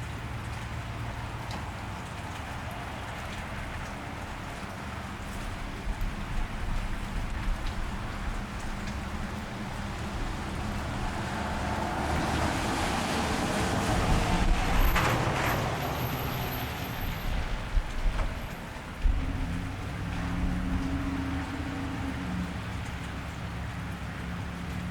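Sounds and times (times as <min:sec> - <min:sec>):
steady rain: 0:00.0 - 0:24.9
tyres hissing on wet road: 0:00.0 - 0:24.9.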